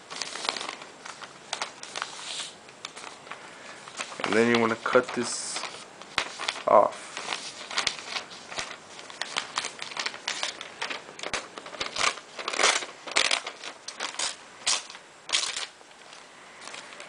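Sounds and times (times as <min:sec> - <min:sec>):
paper rustling: 0:00.0 - 0:17.0.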